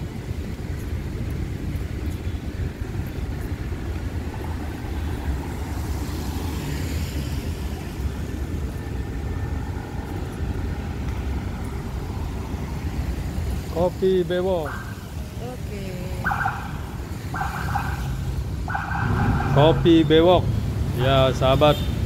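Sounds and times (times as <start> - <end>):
cars passing with tyre hiss: 0.0 - 22.0.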